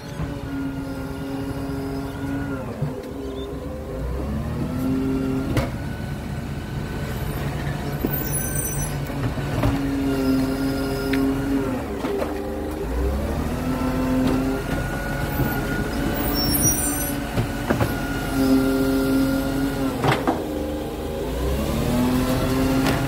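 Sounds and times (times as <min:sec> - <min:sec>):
garbage truck engine running: 0:00.0 - 0:23.0.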